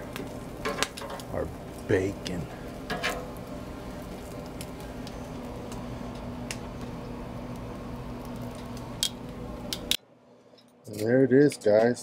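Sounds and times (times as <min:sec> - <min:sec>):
frying hiss on a griddle: 0:00.0 - 0:10.0
low steady hum: 0:00.0 - 0:12.0.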